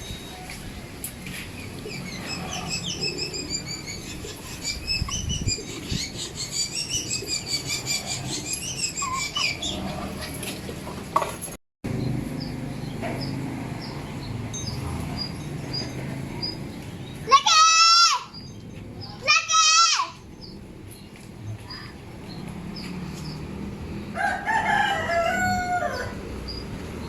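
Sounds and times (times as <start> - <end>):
birds chirping: 0.0 - 11.2, 11.9 - 27.0.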